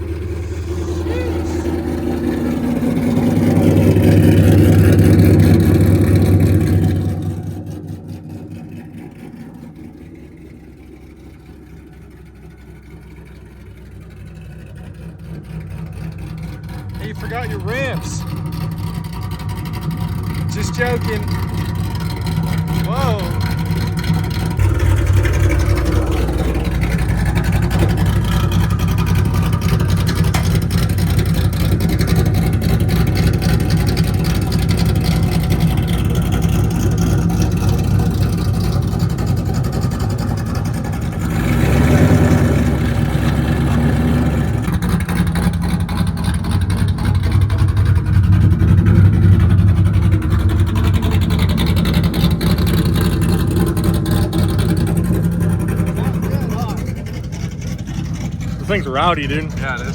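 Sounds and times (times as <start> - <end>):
car engine idling rough: 0.0 - 59.9.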